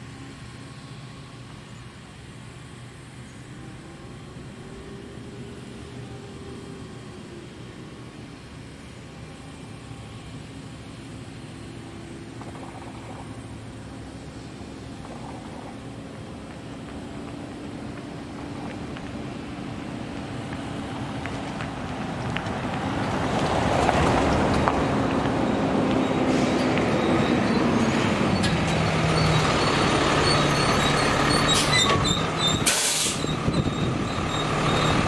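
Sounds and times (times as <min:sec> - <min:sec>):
trucks driving by: 0:00.0 - 0:35.0.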